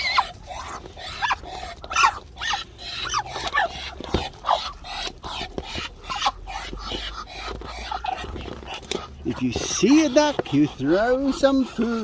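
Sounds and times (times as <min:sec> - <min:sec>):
ducks and chickens calling: 0:00.0 - 0:12.0.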